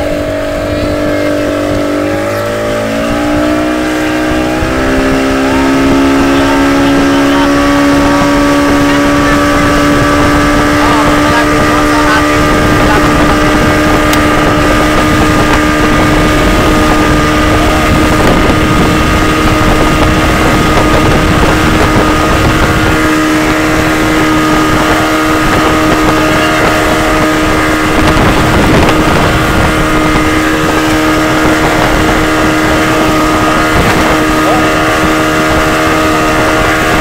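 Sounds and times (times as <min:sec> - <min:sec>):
motorboat engine drone: 0:00.0 - 0:37.0
wind buffeting microphone: 0:00.0 - 0:37.0.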